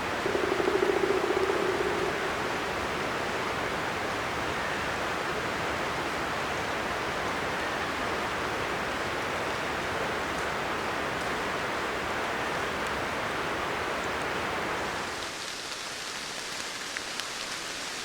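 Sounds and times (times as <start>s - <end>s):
forest stream rushing: 0.0s - 18.0s.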